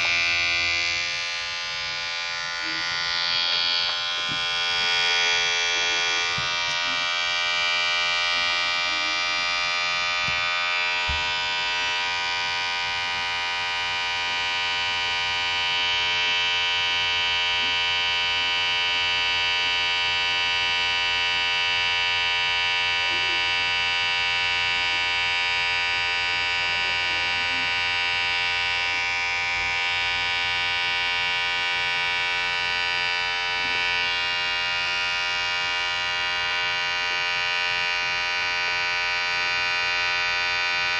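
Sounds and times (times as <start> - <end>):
electric hair clipper buzzing: 0.0 - 40.9.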